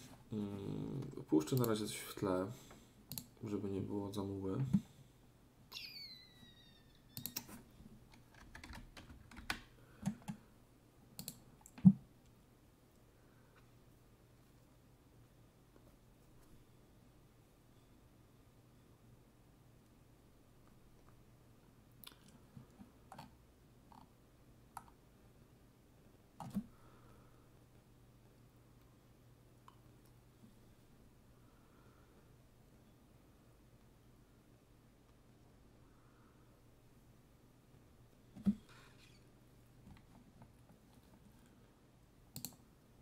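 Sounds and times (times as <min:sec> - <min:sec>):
low room tone hum: 0:00.0 - 0:43.0.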